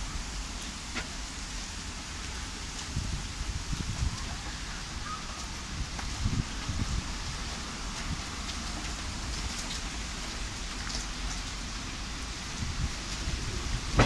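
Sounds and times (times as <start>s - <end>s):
raindrops ticking on surfaces: 0.0s - 14.0s
steady rain hiss: 0.0s - 14.0s.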